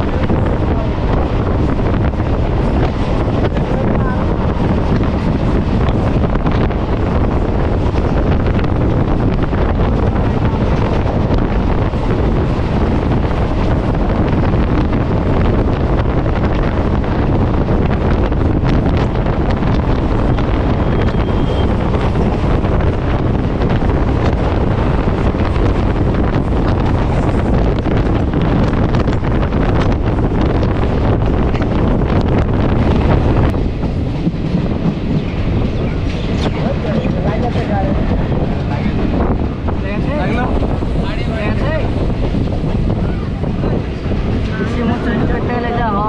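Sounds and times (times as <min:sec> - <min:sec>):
train running noise: 0:00.0 - 0:46.0
wind buffeting microphone: 0:00.0 - 0:46.0.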